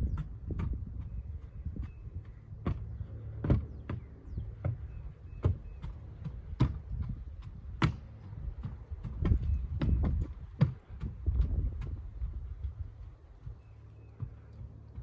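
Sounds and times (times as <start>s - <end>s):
irregular knocks and thumps: 0.0s - 15.0s
steady low rumble: 0.0s - 15.0s.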